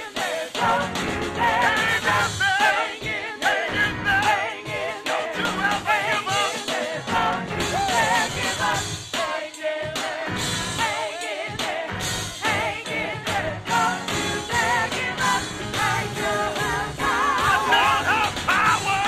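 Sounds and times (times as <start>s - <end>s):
drums beat: 0.0s - 19.0s
gospel choir singing: 0.0s - 19.0s
live band: 0.2s - 9.4s, 10.1s - 19.0s.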